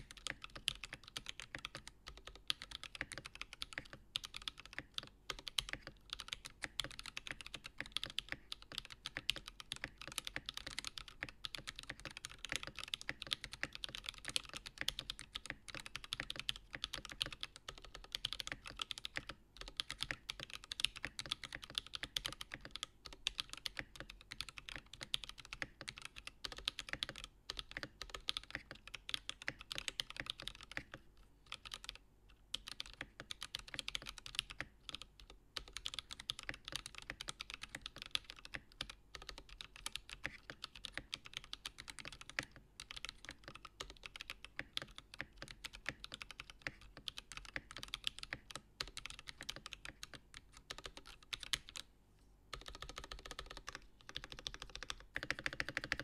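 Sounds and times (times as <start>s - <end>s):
mechanical keyboard typing: 0.0s - 51.9s, 52.5s - 56.0s.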